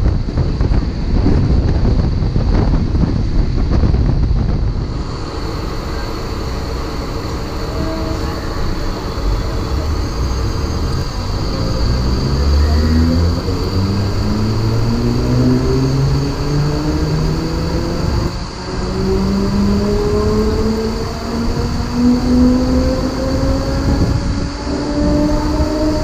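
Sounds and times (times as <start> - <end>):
train rumbling along track: 0.0 - 26.0
train traction motors whining: 4.0 - 26.0.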